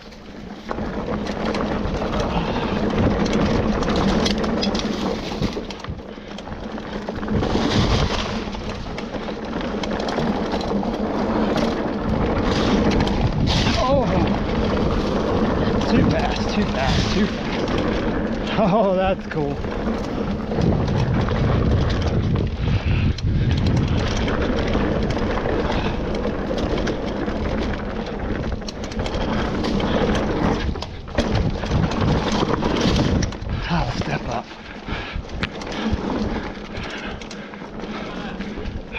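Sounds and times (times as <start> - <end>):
bike tyres rumbling on dirt trail: 0.0 - 38.9
wind buffeting microphone: 0.6 - 38.9.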